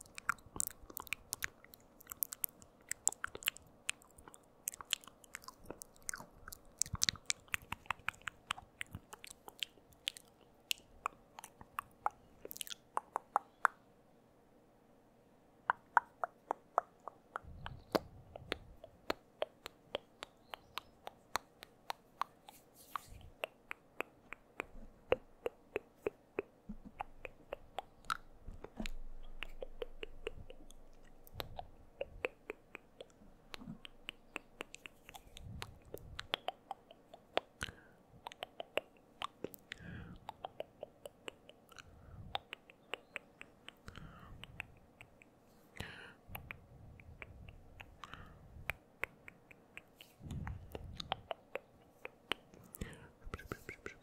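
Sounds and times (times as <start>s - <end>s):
tongue and lip clicks: 0.0s - 13.8s, 15.6s - 54.0s.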